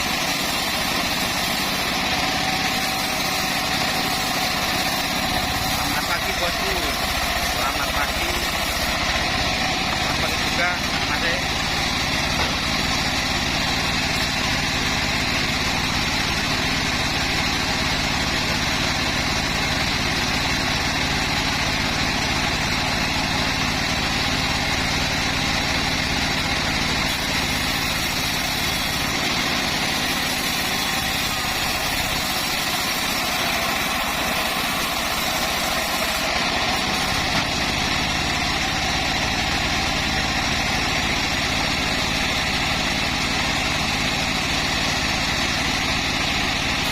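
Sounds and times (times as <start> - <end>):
bandsaw mill cutting wood: 0.0 - 46.9.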